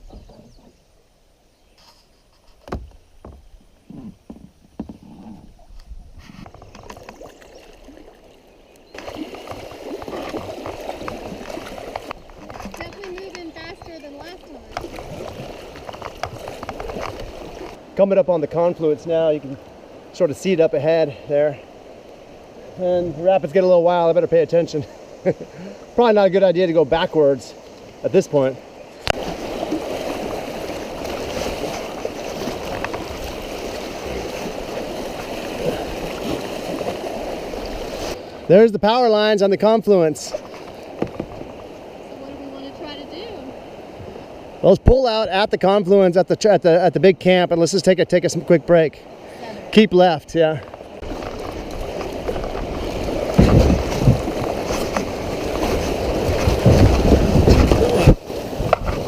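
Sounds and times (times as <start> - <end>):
rushing whitewater: 7.1 - 59.0.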